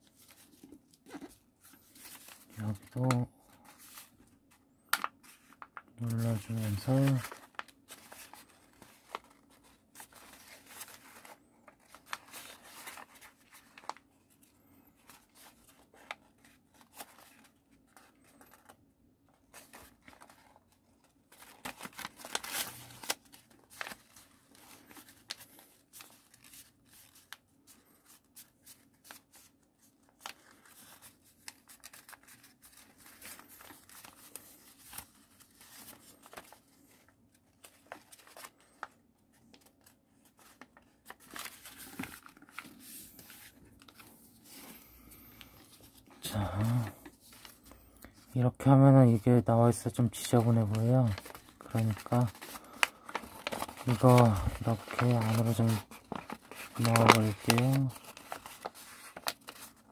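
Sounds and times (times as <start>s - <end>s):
paper rustling and crinkling: 0.0s - 48.4s, 49.6s - 59.9s.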